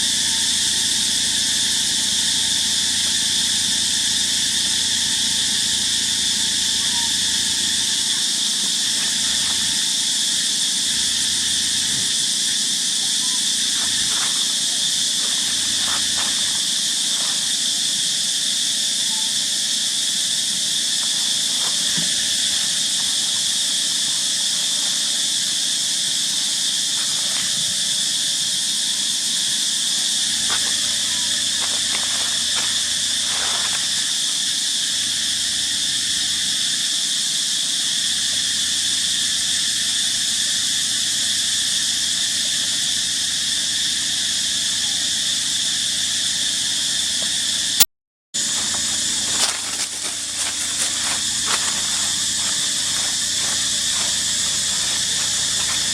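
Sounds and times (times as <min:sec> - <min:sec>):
insects buzzing: 0:00.0 - 0:47.8, 0:48.4 - 0:55.9.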